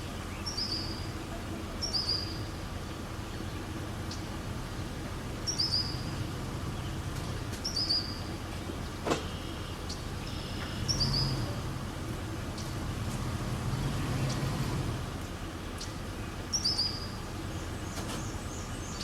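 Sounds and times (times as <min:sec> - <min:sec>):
bird calls: 0:00.0 - 0:11.6, 0:13.7 - 0:19.0.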